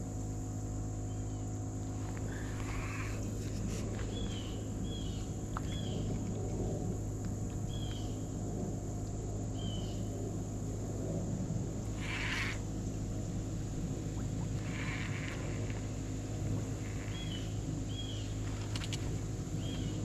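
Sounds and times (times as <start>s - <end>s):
high insect drone: 0.0s - 20.0s
low steady hum: 0.0s - 20.0s.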